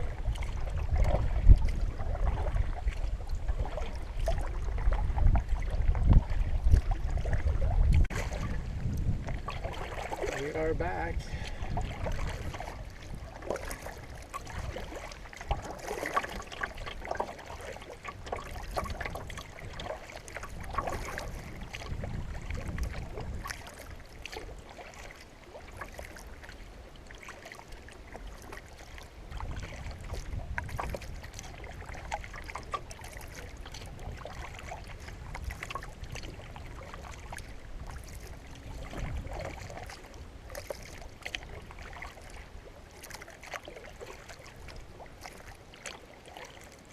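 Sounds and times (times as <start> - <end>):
wind rumbling on microphone: 0.0 - 24.8, 28.0 - 43.0
water splashing and trickling: 0.0 - 46.9.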